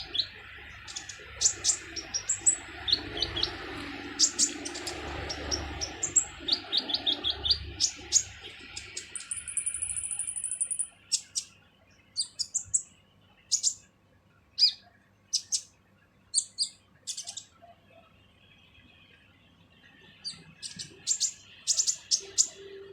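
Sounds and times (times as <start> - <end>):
bird trill: 0.0 - 13.9, 14.6 - 18.1, 19.9 - 22.9
sunbird chirping: 0.0 - 13.9, 14.6 - 15.7, 16.3 - 17.6, 20.2 - 22.9.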